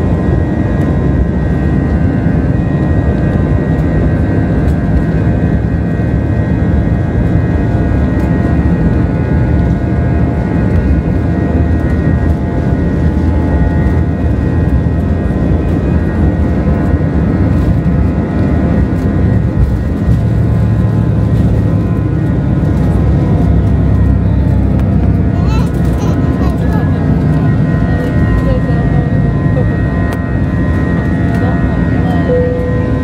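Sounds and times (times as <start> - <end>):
jet engine whine and rumble: 0.0 - 33.0.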